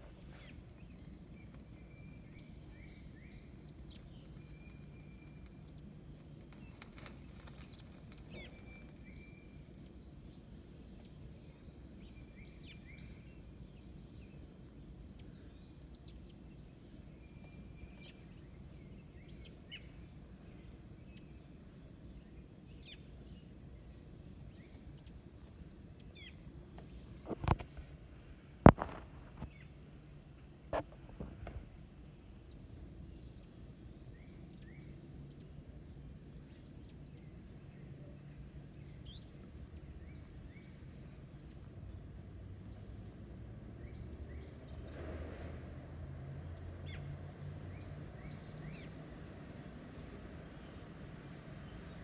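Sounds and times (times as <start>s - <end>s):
low background rumble: 0.0s - 48.0s.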